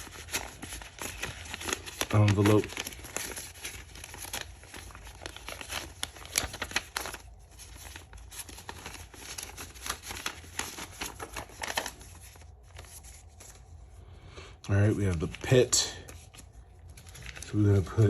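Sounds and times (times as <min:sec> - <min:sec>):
paper crackles: 0:00.0 - 0:13.9, 0:14.6 - 0:18.0
paper banknotes rustling: 0:00.0 - 0:14.0, 0:14.6 - 0:18.0.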